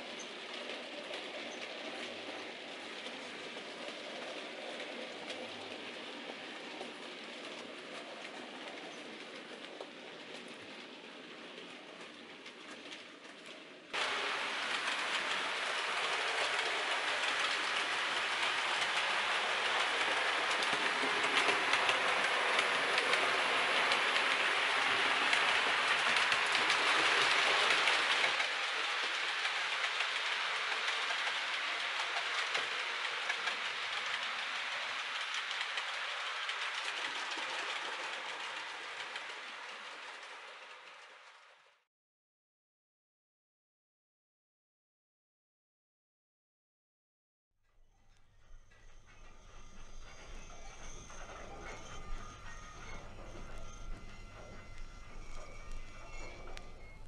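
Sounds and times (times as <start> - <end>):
train rushing on rails: 0.0 - 41.8, 48.3 - 57.0.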